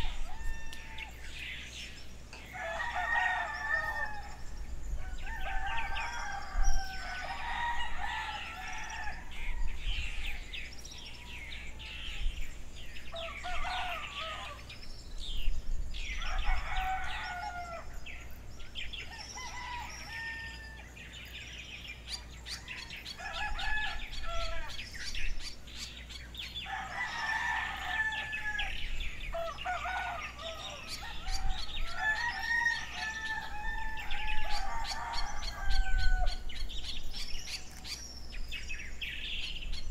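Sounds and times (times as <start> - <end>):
roosters crowing: 0.0 - 15.0, 16.0 - 39.4
small birds chirping: 0.0 - 39.9.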